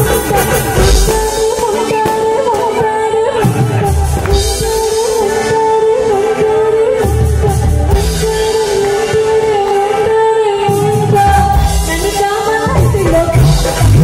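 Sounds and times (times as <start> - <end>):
live band through pa: 0.0 - 14.0
woman singing: 0.0 - 14.0.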